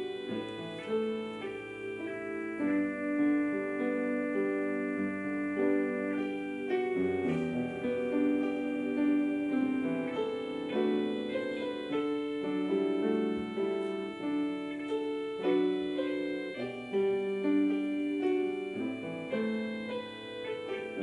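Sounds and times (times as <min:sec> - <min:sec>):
slow grand piano melody: 0:00.0 - 0:21.0.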